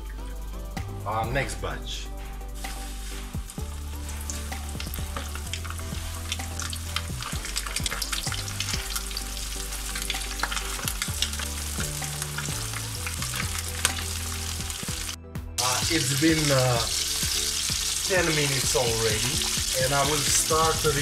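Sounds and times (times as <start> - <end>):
chicken frying in oil: 2.6 - 21.0.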